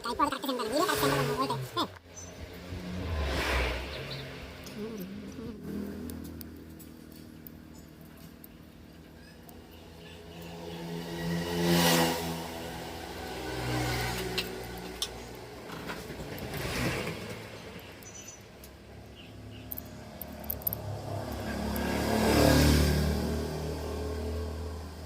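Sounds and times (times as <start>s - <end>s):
scooter engine revving: 0.0s - 25.0s.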